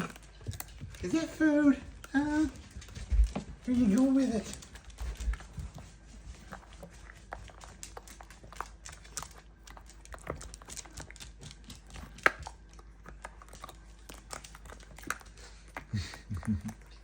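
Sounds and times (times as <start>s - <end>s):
puppy teeth clicking on egg: 0.0s - 17.0s.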